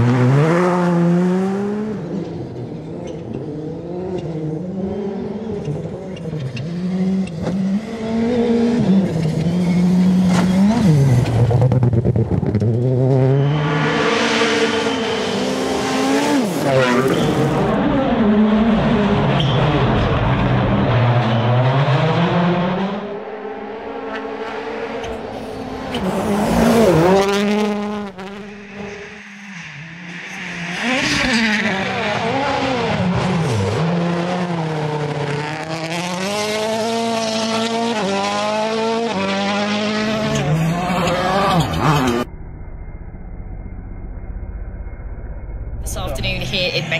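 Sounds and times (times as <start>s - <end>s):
rally car engines revving: 0.0s - 42.3s.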